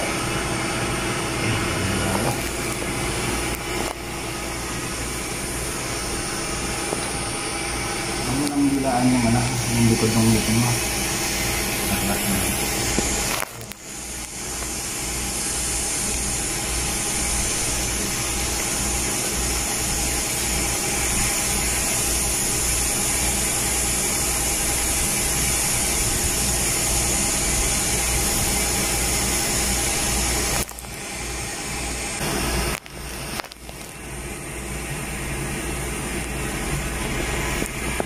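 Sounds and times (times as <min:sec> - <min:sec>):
steady rushing hiss: 0:01.0 - 0:38.0.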